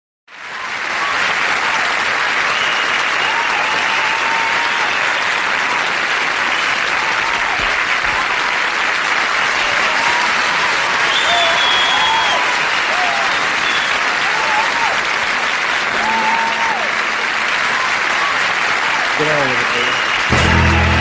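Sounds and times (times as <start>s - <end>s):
audience applauding: 0.3s - 21.0s.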